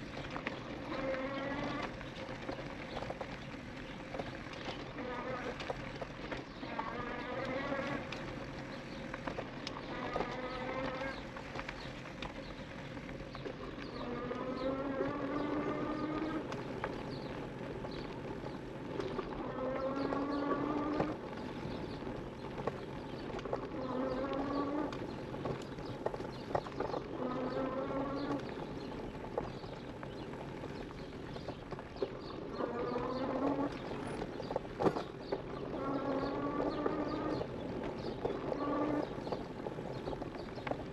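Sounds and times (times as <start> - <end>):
bike tyre and frame rumble: 0.0 - 40.9.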